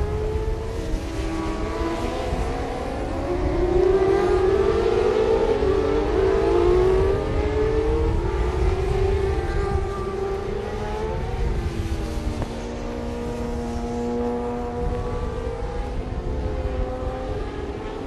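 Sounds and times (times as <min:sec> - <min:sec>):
motorcycle engines revving high: 0:00.0 - 0:18.0.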